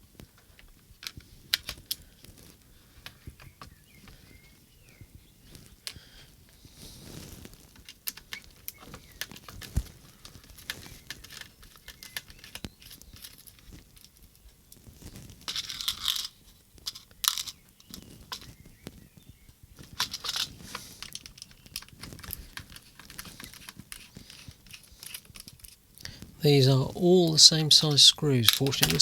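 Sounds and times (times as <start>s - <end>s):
light clicks of plastic parts: 0.0s - 26.4s, 27.2s - 29.0s.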